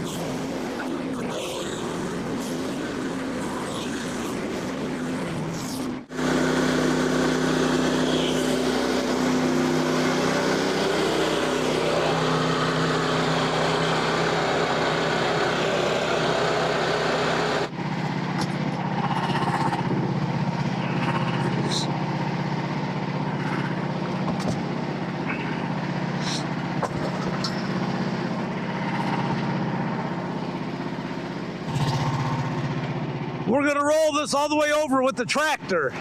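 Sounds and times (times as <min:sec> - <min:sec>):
sawmill engine running: 0:00.0 - 0:36.0.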